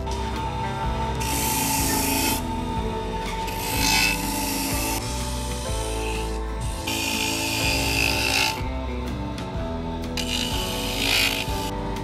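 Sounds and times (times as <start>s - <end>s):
electric grater rasping coconut: 0.0s - 8.9s, 10.1s - 11.8s.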